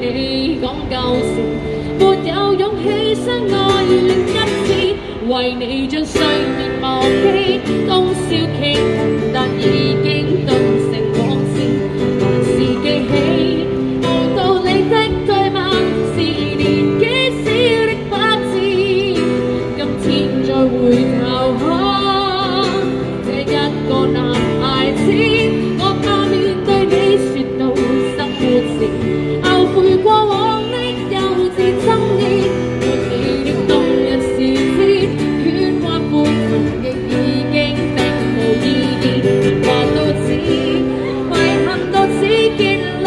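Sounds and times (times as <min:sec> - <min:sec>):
acoustic guitar: 0:00.0 - 0:43.0
woman singing into a microphone: 0:00.0 - 0:43.0.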